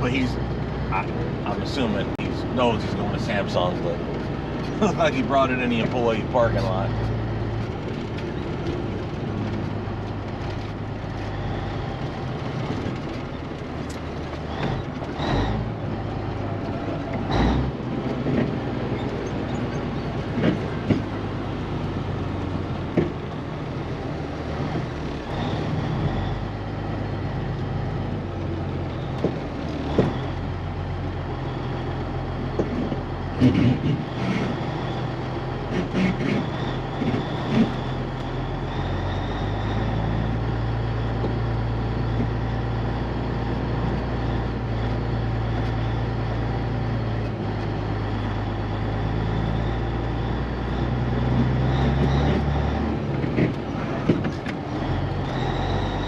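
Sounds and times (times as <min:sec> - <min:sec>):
clunks and rattles: 0:00.0 - 0:56.0
truck diesel engine running: 0:00.0 - 0:56.0.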